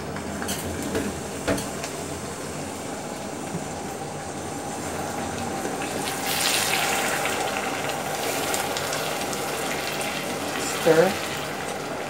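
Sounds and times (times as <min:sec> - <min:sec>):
glaze bubbling and sizzling: 0:00.0 - 0:12.0.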